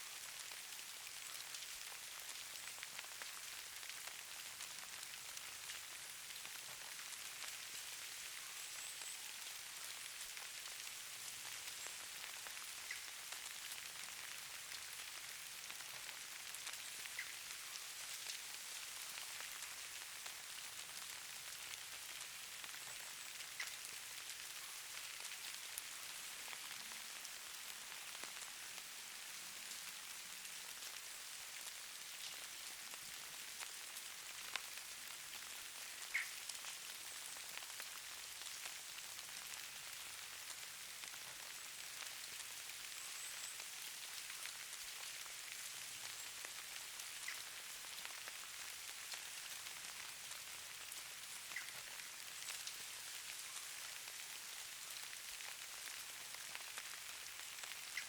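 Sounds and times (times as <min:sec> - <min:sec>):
snow pattering with fine hiss: 0:00.0 - 0:58.0.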